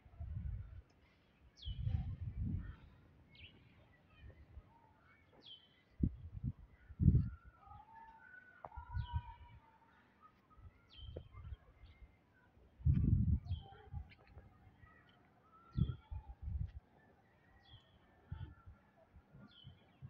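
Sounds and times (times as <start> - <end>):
soft bird calls: 0.8 - 20.0.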